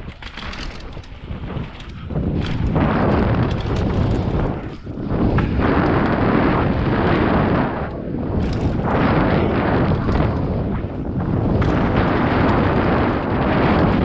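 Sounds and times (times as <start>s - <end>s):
tyres rolling over dirt trail: 0.0s - 14.0s
wind buffeting microphone: 0.0s - 14.0s.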